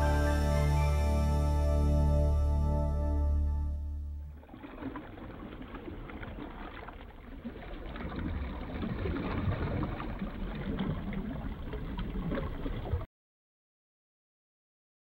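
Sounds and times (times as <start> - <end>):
ocean ambience: 0.0 - 13.1.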